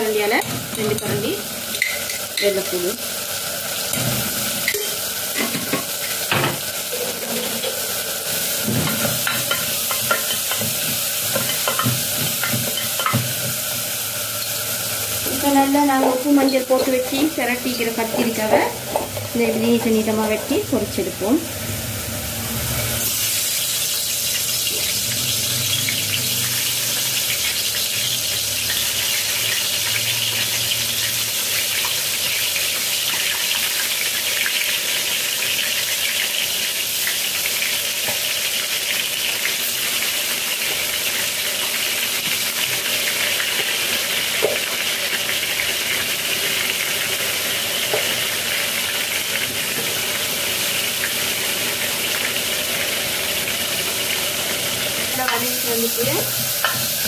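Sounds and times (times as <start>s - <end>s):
eggplant sizzling in hot oil: 0.0s - 57.0s.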